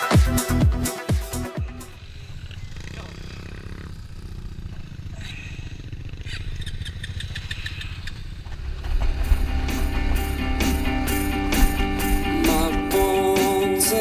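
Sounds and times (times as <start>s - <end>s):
quad bike engine running: 0.3s - 14.0s.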